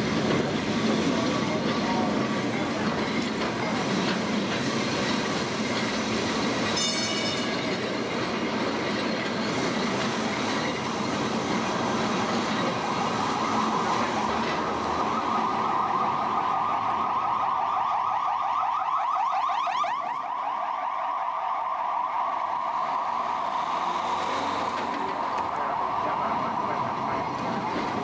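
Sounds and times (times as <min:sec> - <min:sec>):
tram wheels squealing on rails: 0:00.0 - 0:17.0, 0:22.1 - 0:28.0.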